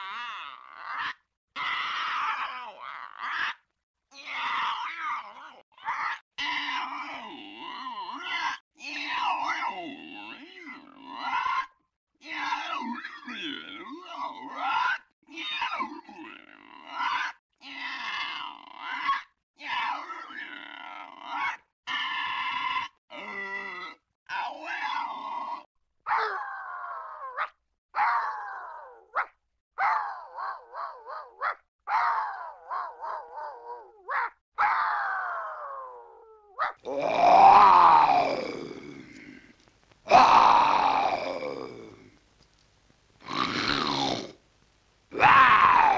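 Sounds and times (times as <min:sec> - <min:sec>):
warbling cartoon creature cries: 0:00.0 - 0:10.4, 0:14.2 - 0:39.2, 0:40.1 - 0:42.1, 0:45.1 - 0:45.9.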